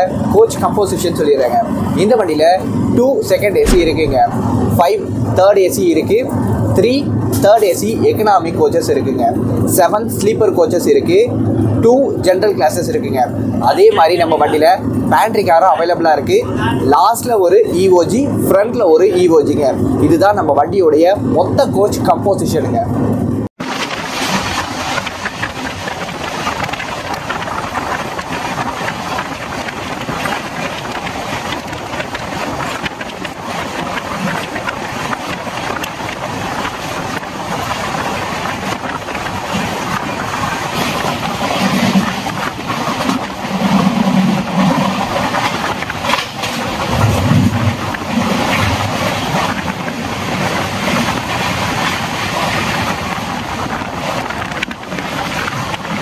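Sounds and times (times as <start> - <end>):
passenger train rushing noise: 0.0 - 20.4, 22.7 - 56.0.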